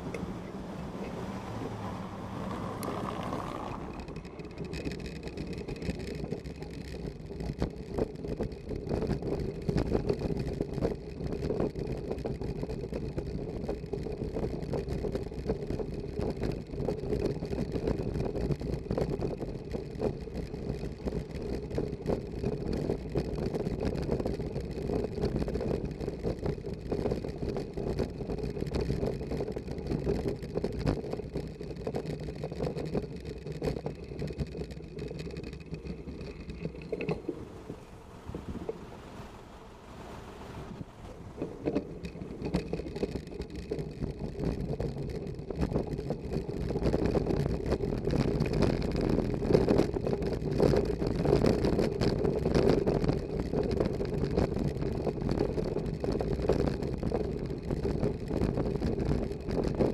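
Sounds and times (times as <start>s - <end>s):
bicycle rattling over cobblestones: 0.0s - 59.9s.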